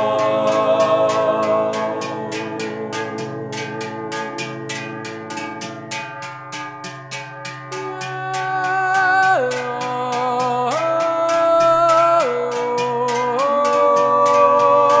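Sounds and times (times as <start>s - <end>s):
held music chords: 0.0s - 15.0s
steady percussive tick: 0.0s - 15.0s.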